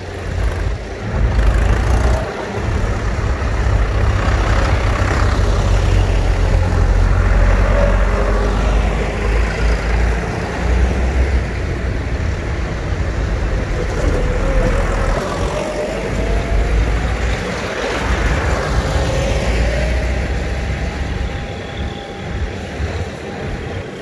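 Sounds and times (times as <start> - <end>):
faint whine drifting in pitch: 0.0 - 24.0
tractor diesel engines rumbling: 0.0 - 24.0.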